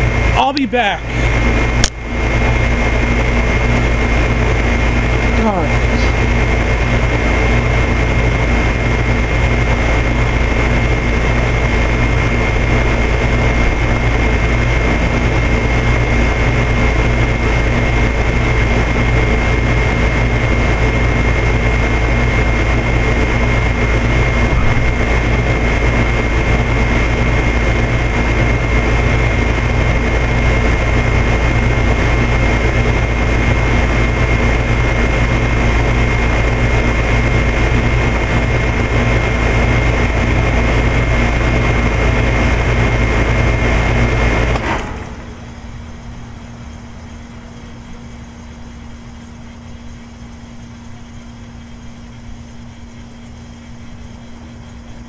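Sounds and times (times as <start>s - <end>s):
condenser fan blowing: 0.0s - 55.0s
heat pump compressor humming: 0.0s - 55.0s.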